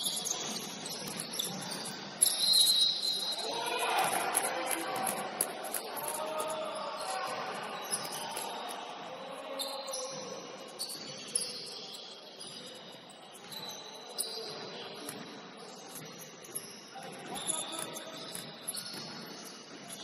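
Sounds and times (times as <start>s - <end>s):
shoes squeaking on court: 0.0s - 20.0s.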